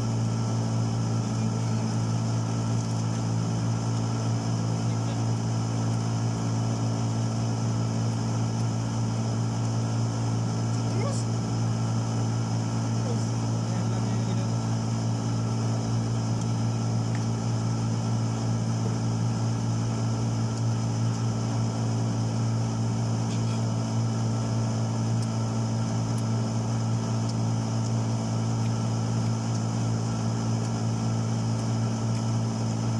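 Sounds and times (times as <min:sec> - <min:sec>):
steady machine hum: 0:00.0 - 0:32.9.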